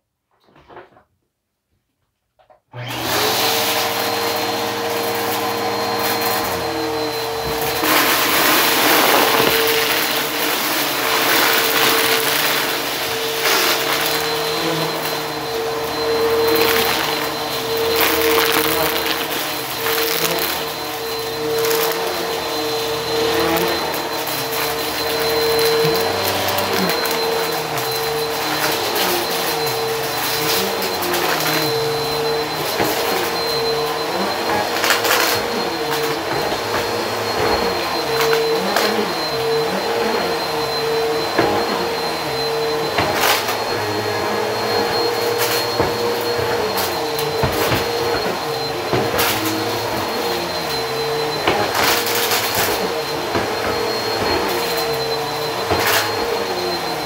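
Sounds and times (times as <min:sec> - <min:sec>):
vacuum cleaner running: 0:02.7 - 0:57.0.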